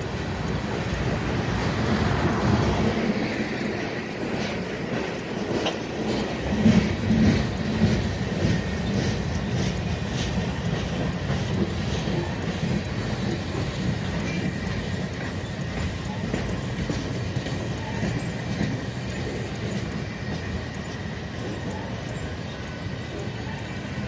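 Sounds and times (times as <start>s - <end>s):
clicks and clanks of train cars: 0.0s - 24.0s
train wheels rumbling on rails: 0.0s - 24.0s.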